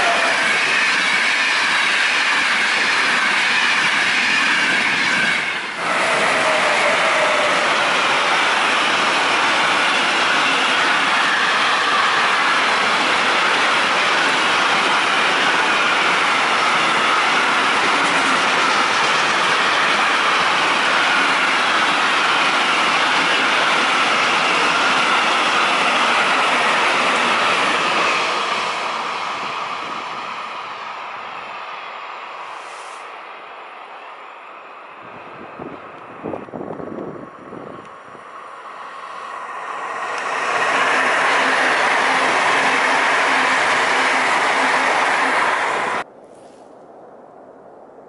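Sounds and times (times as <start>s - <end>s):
freight train wheels rumbling on rail: 0.0s - 46.1s.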